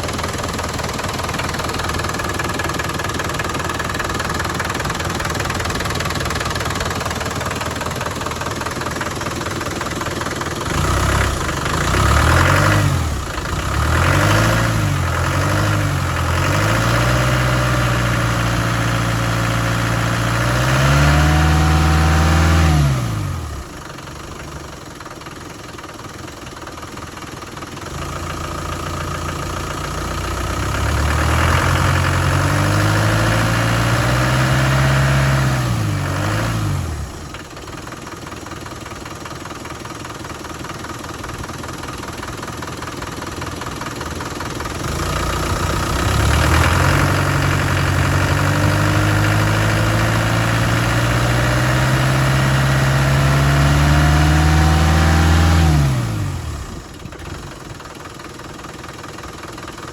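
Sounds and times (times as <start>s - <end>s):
engine revving and idling: 0.0s - 24.9s, 27.7s - 58.3s.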